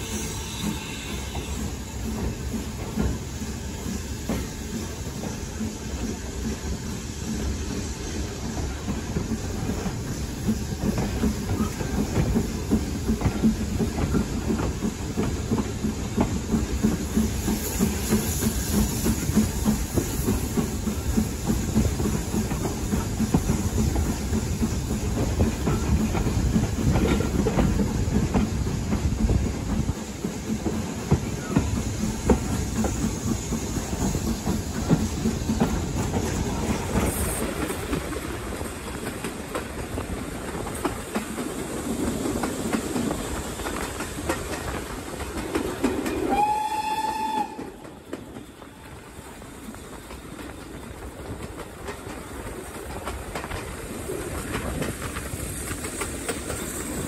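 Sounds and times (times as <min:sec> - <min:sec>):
rushing hiss: 0:00.0 - 0:57.0
train wheels rumbling on rails: 0:00.0 - 0:57.0.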